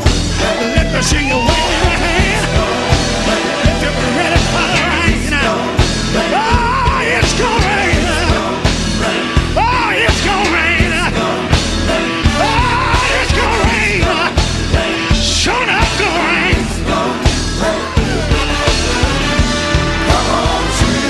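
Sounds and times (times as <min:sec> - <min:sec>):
band with drums and bass: 0:00.0 - 0:21.0
person singing and shouting: 0:00.0 - 0:21.0.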